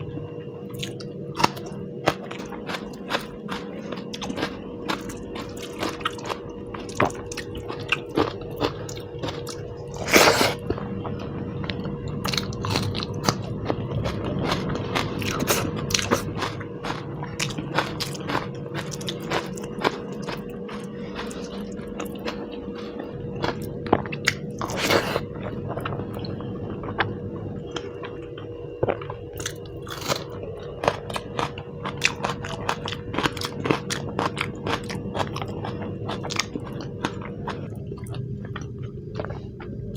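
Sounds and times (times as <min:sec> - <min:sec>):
faint steady hum: 0:00.0 - 0:39.9
chewing and biting: 0:00.8 - 0:10.7, 0:11.7 - 0:27.1, 0:28.8 - 0:39.9.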